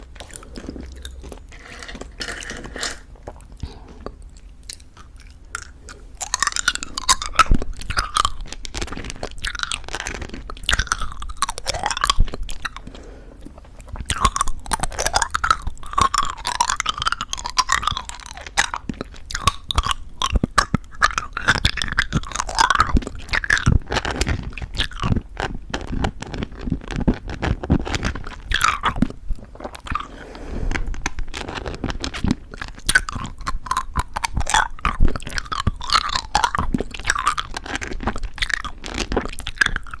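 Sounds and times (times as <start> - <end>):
candy coating crunching: 0.0 - 40.0.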